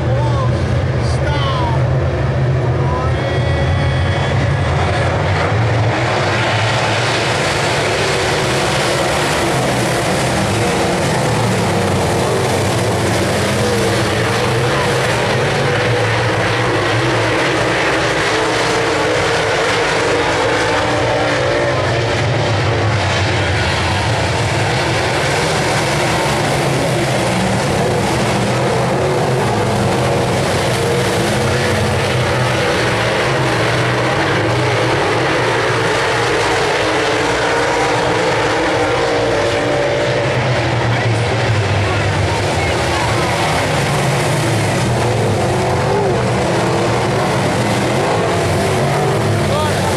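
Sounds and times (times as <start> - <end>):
race car engines droning: 0.0 - 49.9.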